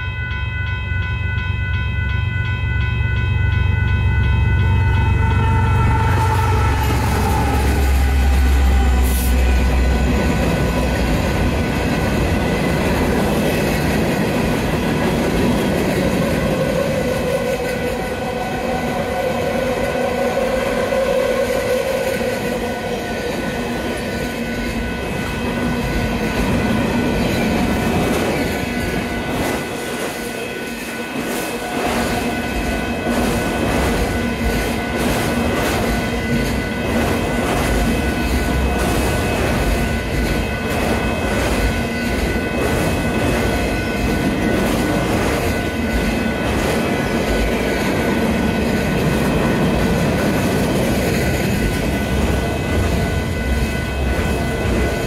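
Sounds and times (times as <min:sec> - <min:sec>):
diesel locomotive engine rumble: 0:00.0 - 0:55.0
freight cars rumbling on rails: 0:03.8 - 0:55.0.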